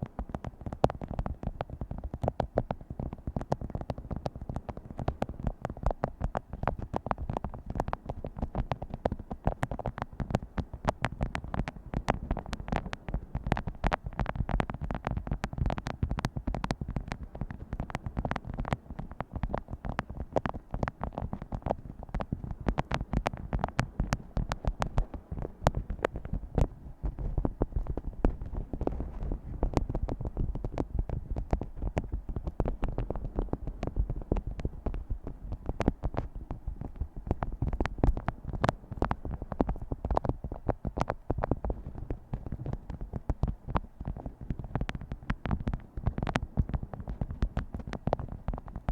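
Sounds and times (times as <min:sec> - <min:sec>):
fingers tapping on objects: 0:00.1 - 0:48.9.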